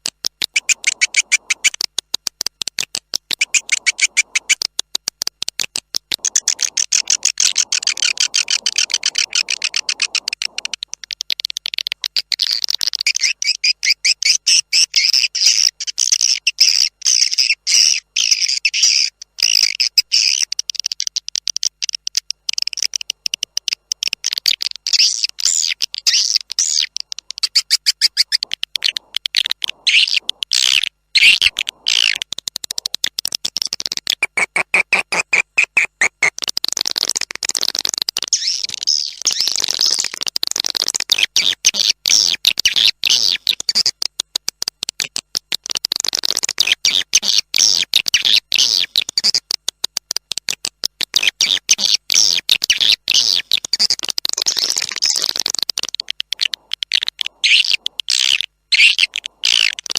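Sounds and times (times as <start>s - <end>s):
fast high twittering chirps: 0.4s - 2.0s, 3.1s - 4.8s, 6.0s - 44.0s, 46.0s - 49.4s, 51.1s - 59.9s.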